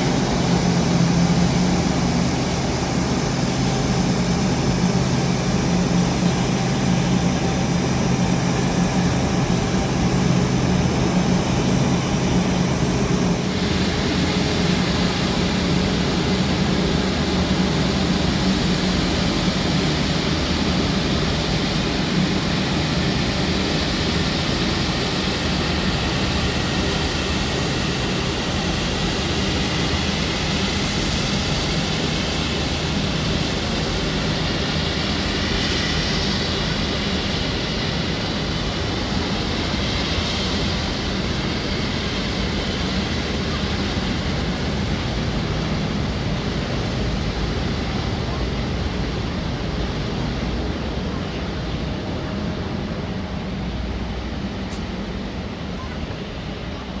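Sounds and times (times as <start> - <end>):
faint engine whines: 0.0 - 57.0
jet engines running: 0.0 - 57.0.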